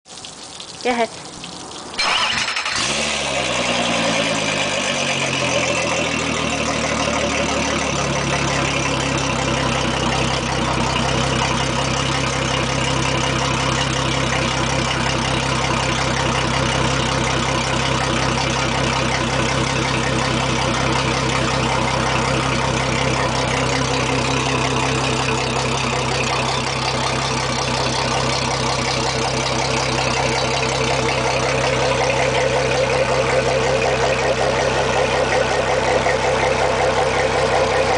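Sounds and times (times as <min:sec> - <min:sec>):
outboard engine starting and idling: 0:01.6 - 0:37.9.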